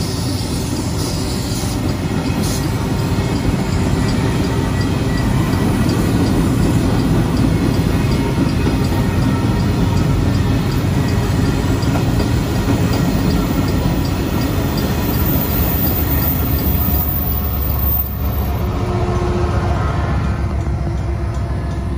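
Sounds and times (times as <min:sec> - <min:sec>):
diesel locomotives rumbling past: 0:00.0 - 0:21.9.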